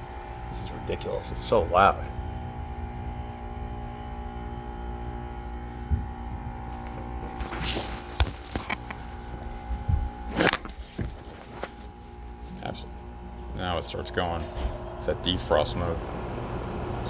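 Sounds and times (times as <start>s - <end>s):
heat pump droning hum: 0.0s - 17.0s.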